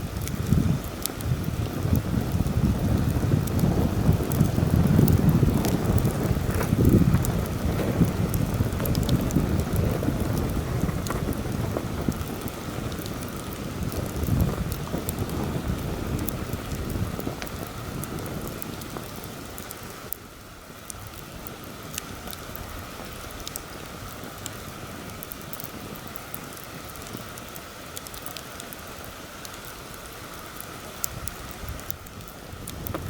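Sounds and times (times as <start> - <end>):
campfire crackling and popping: 0.0 - 33.0
wind buffeting microphone: 0.0 - 33.0.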